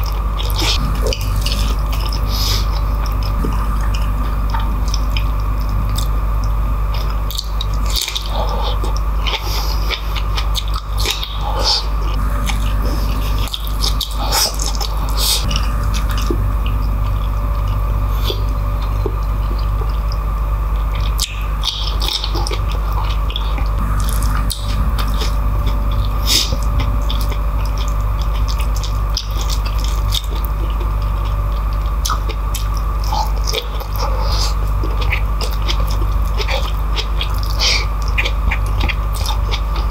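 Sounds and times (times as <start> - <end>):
steady low hum: 0.0 - 39.9
wet chewing: 0.0 - 39.9.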